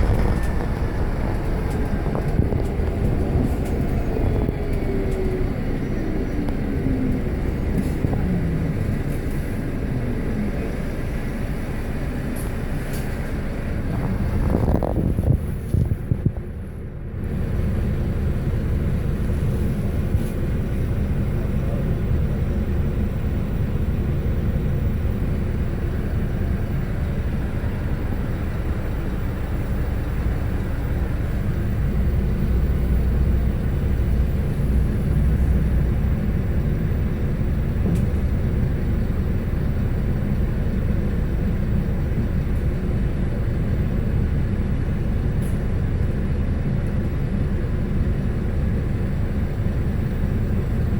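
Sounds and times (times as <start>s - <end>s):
bus diesel engine running: 0.0s - 50.9s
road noise: 0.0s - 50.9s.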